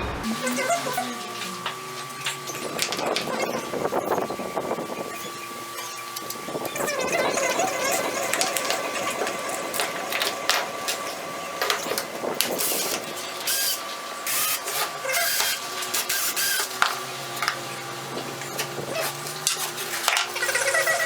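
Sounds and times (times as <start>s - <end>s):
steady high hum: 0.0s - 21.0s
power drill driving screws: 0.3s - 21.0s.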